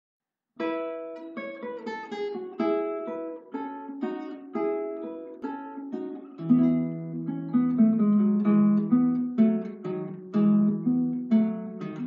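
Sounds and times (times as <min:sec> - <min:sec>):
plucked guitar melody: 0:00.6 - 0:12.0.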